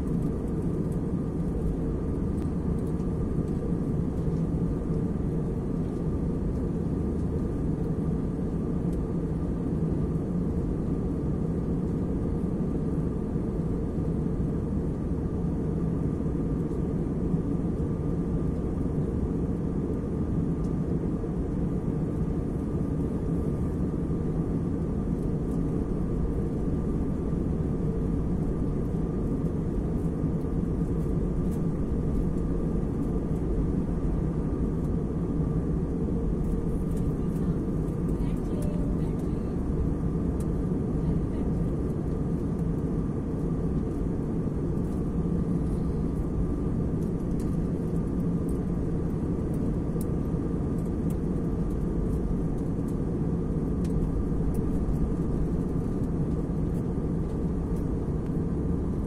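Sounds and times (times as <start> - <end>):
faint steady hum: 0.0 - 59.0
jet engine and airflow rumble: 0.0 - 59.0.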